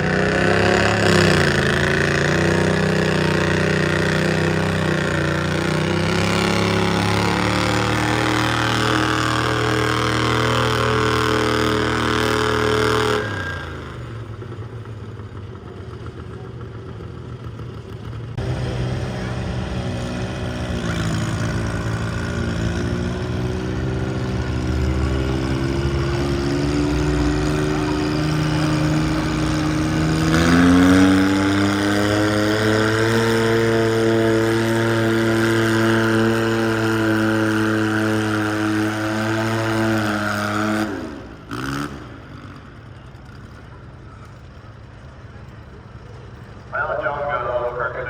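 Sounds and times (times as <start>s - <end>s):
tractor engine revving under load: 0.0s - 14.9s, 18.3s - 48.0s.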